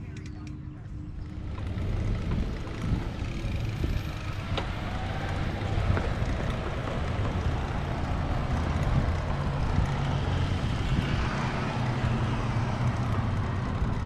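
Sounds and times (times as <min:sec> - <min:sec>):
road traffic passing: 0:00.0 - 0:14.0
wind rumbling on microphone: 0:01.2 - 0:14.0.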